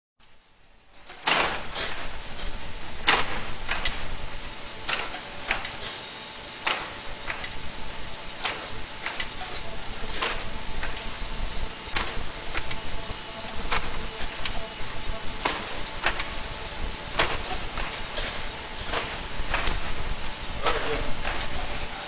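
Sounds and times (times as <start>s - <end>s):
steady hiss: 0.2s - 22.0s
machine mechanical clacks: 0.8s - 22.0s.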